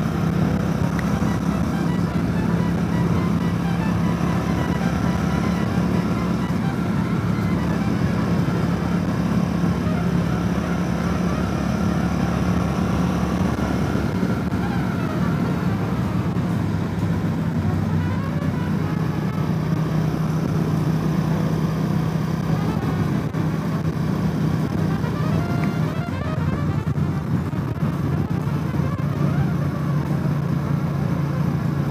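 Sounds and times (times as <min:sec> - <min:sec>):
motorcycle engine droning: 0:00.0 - 0:31.9
wind and road noise: 0:00.0 - 0:31.9.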